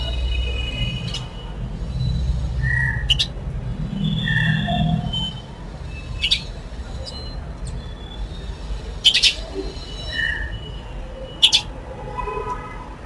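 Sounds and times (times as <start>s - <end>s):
sparrows chirping: 0.0s - 11.8s.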